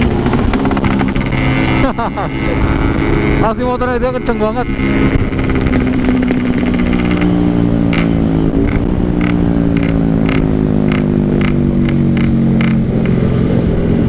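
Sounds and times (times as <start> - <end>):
two-stroke motorcycle engine running hard: 0.0 - 14.0.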